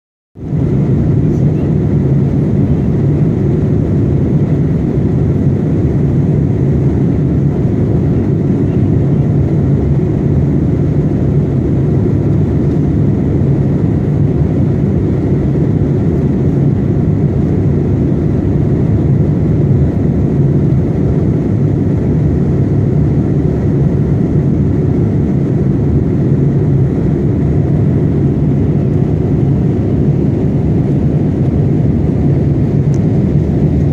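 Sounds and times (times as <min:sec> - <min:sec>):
aircraft cabin engine drone: 0:00.4 - 0:33.9.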